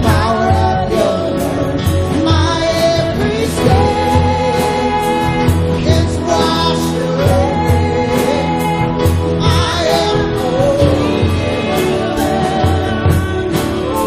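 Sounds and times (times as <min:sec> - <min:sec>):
person singing: 0:00.0 - 0:14.0
worship band playing slow song: 0:00.0 - 0:14.0.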